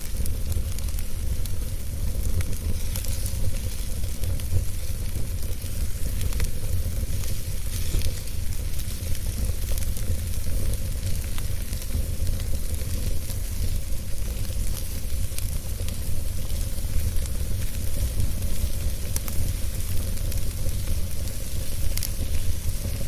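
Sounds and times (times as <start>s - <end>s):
fire low rumble: 0.0s - 23.0s
wood fire hissing and crackling: 0.0s - 23.0s.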